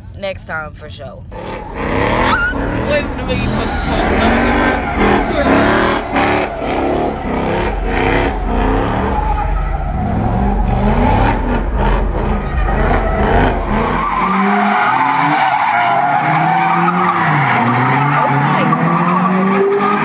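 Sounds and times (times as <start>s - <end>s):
car engines revving: 1.2s - 20.0s
tires squealing: 1.3s - 20.0s.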